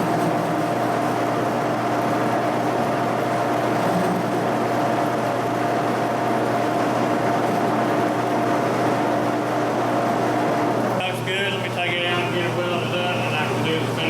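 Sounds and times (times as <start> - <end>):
shop machine humming and whining: 0.0 - 14.0.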